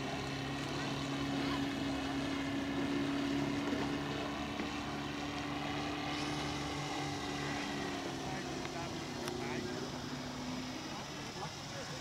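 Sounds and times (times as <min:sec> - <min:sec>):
model plane engine and propeller drone: 0:00.0 - 0:12.0.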